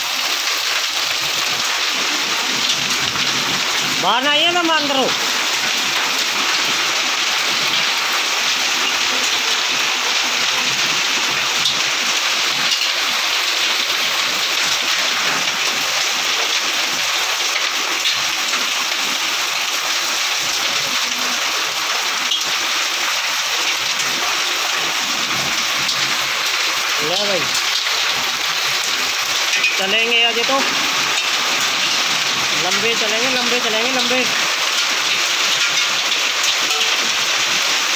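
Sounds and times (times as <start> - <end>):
heavy rain and hail on roof: 0.0 - 37.9.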